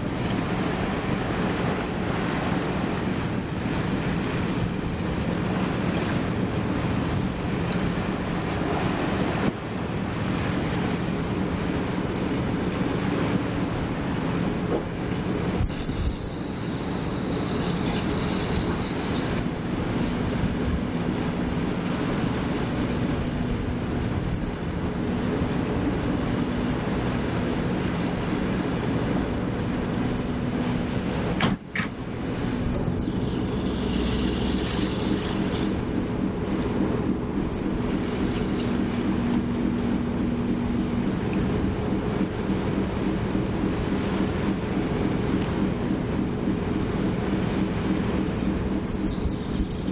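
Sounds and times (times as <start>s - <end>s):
ferry engine humming: 0.0s - 49.9s
water noise: 0.0s - 49.9s
wind: 0.0s - 49.9s.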